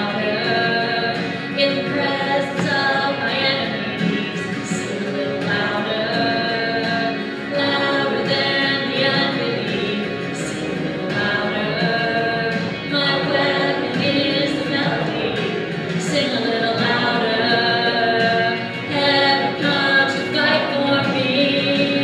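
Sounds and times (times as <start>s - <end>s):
group singing a hymn: 4.4s - 22.0s.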